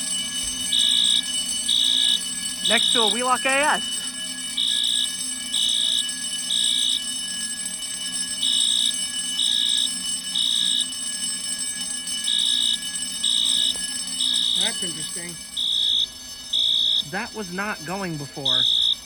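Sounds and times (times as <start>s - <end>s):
fire alarm beeps: 0.0s - 19.0s.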